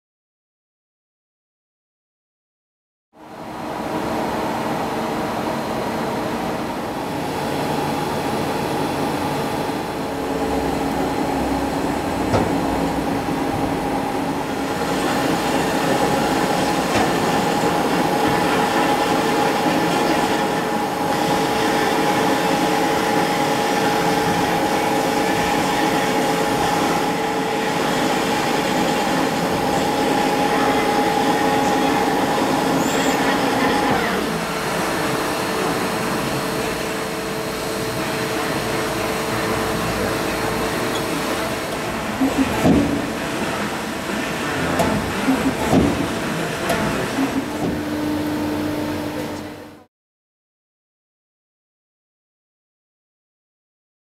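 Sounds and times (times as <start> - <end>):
lathe running with whine: 3.2 - 49.9.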